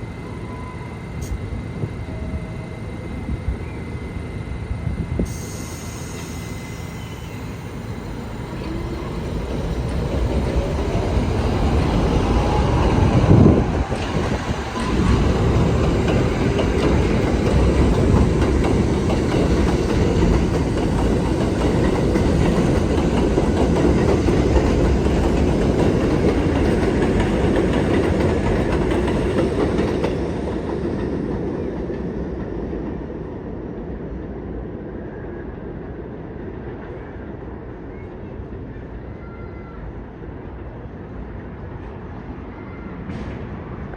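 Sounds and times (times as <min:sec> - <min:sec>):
elevated train running past: 0:00.0 - 0:43.9.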